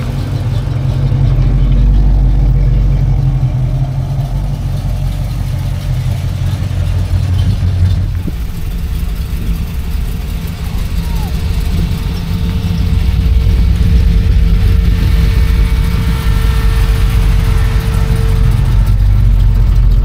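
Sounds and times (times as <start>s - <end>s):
car engine driving past: 0.0s - 20.0s.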